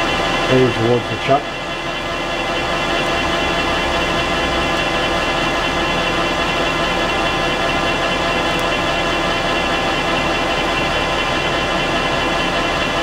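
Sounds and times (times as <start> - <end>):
metal lathe cutting steel: 0.0 - 13.0.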